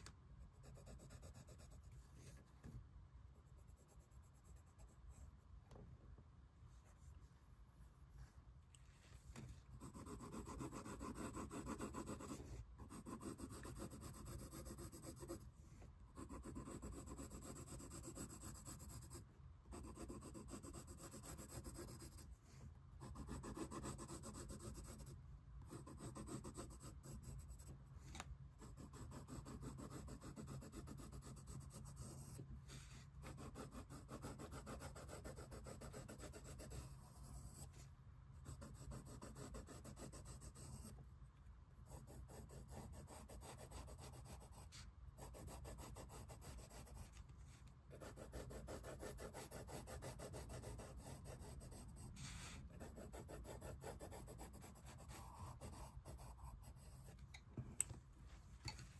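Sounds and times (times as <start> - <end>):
pencil scratching on paper: 0.4 - 2.8, 3.4 - 5.4, 9.3 - 41.0, 41.8 - 57.2.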